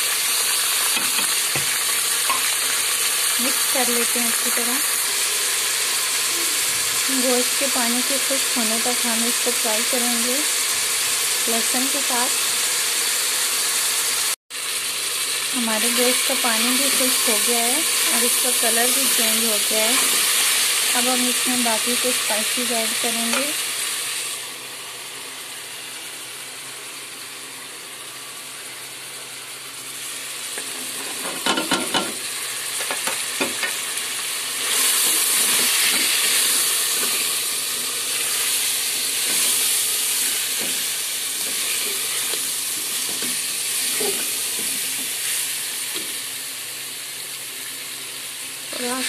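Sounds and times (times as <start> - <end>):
beef sizzling in hot fat: 0.0 - 49.0.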